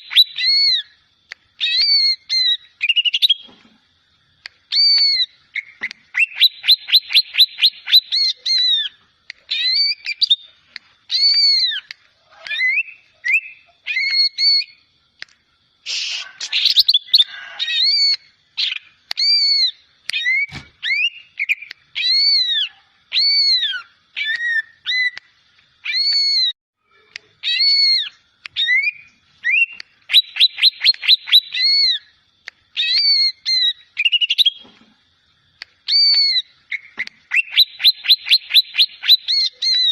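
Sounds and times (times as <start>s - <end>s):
bird singing whistled notes: 0.0s - 1.0s, 1.6s - 3.5s, 4.7s - 14.9s, 15.9s - 26.6s, 27.4s - 32.1s, 32.8s - 34.7s, 35.8s - 39.9s.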